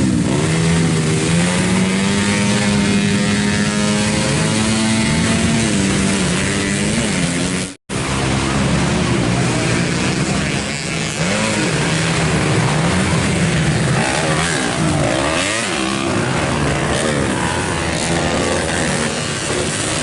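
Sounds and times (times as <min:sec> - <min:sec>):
racing motorcycle engines passing: 0:00.0 - 0:20.0.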